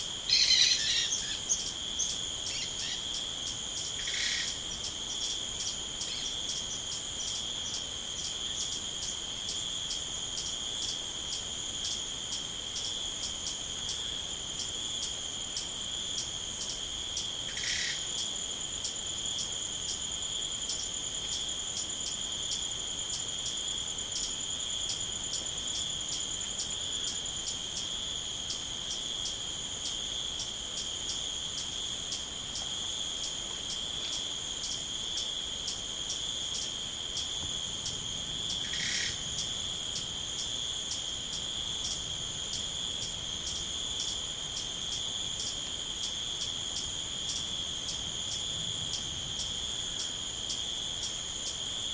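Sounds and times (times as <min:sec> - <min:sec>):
crickets trilling: 0:00.0 - 0:51.9
insect chirping in short pulses: 0:00.0 - 0:51.9.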